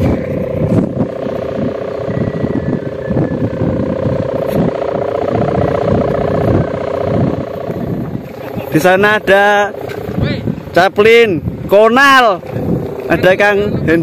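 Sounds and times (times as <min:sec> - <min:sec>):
kite hummer droning: 0:00.0 - 0:14.0
wind buffeting microphone: 0:00.0 - 0:14.0.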